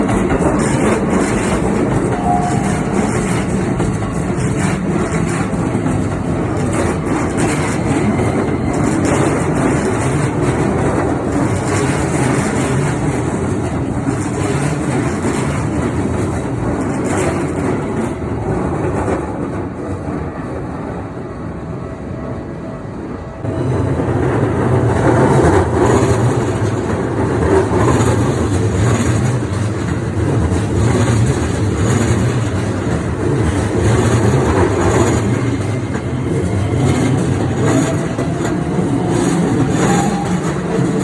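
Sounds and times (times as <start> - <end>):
wheels clattering over rails: 0.0 - 19.6, 23.6 - 41.0
electric train passing: 0.0 - 41.0.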